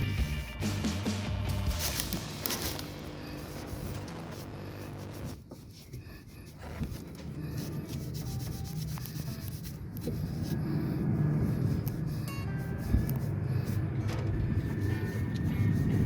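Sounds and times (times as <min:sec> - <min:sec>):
brush scrubbing engine: 0:00.0 - 0:16.0
steady low hum: 0:00.0 - 0:16.0.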